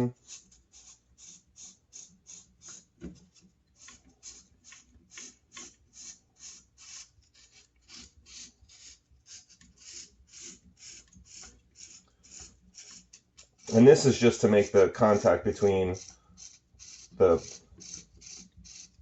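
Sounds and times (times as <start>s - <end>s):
sandpaper scraping on metal: 0.0s - 19.0s.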